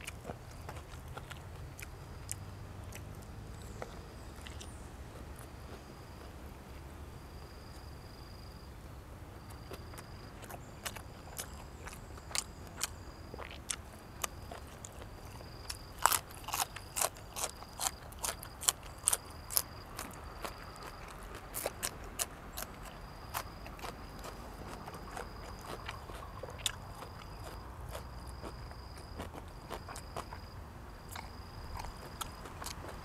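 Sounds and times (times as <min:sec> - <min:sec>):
crunching and clicking while eating: 0:00.0 - 0:06.4, 0:09.4 - 0:33.0.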